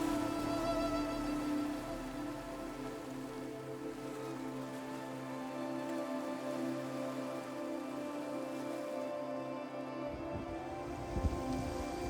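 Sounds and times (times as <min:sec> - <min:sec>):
slow sustained music: 0:00.0 - 0:12.0.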